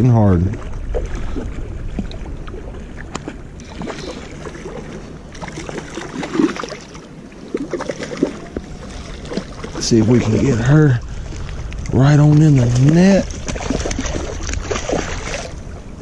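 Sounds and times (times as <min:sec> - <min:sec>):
creek water rushing: 0:00.0 - 0:16.0
wind: 0:00.0 - 0:16.0.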